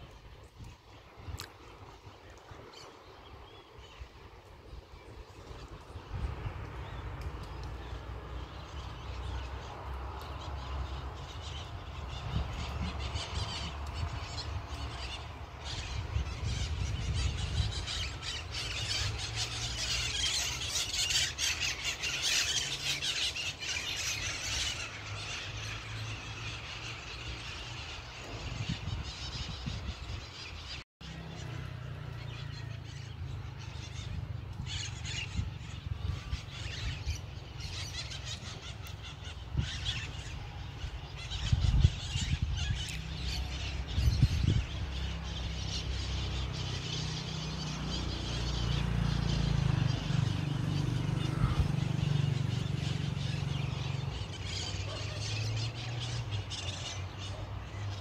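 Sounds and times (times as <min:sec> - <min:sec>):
birds calling and chattering: 0:00.0 - 0:58.0.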